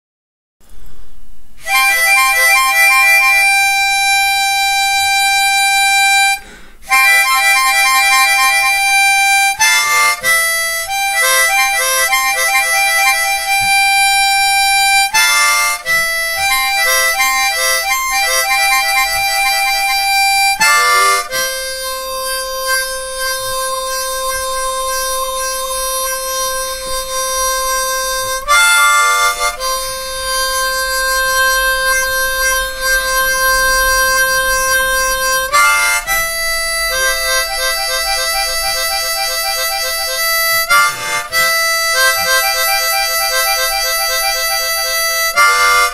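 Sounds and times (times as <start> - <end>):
harmonica playing slow tune: 1.6 - 45.9.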